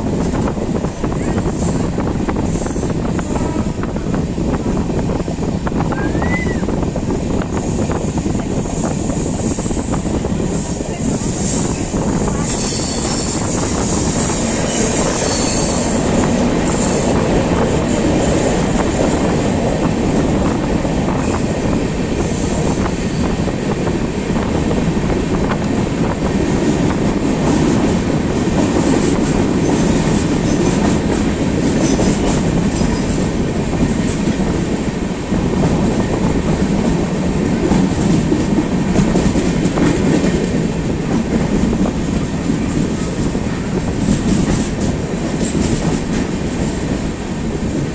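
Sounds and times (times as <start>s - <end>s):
train running on rails: 0.0s - 47.9s.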